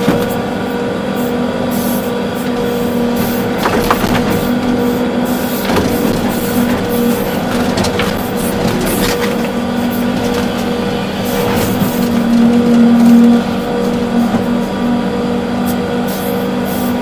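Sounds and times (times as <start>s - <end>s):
excavator engine and hydraulics whine: 0.0s - 17.0s.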